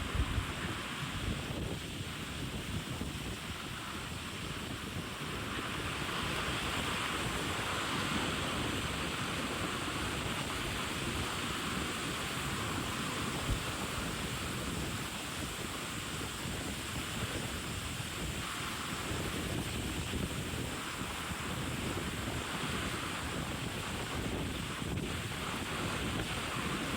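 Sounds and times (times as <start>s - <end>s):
wind and sea water rushing: 0.0s - 26.9s
wind buffeting microphone: 0.0s - 26.9s.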